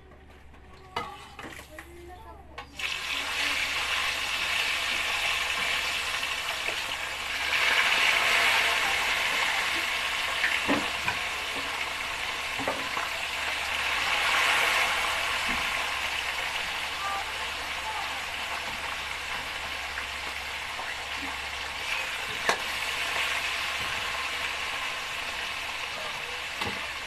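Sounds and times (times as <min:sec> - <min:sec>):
fish sizzling in hot oil: 0:02.8 - 0:27.0.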